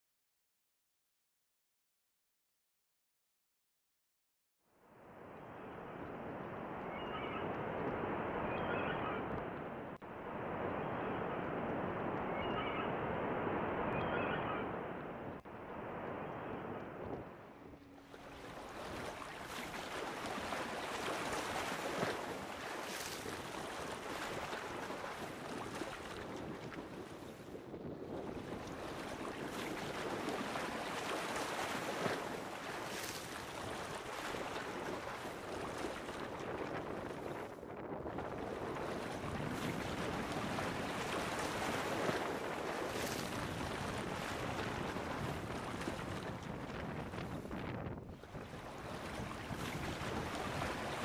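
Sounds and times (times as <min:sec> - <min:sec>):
wind: 0:04.6 - 0:51.0
water rushing: 0:05.0 - 0:37.5, 0:38.1 - 0:51.0.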